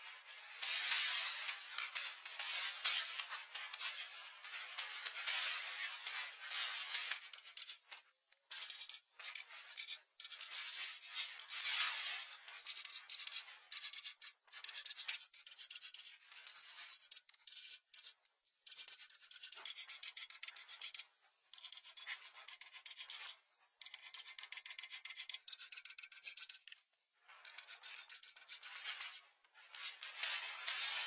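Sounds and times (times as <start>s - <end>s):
crayon scribbling on paper: 0.6s - 7.9s, 8.5s - 31.0s.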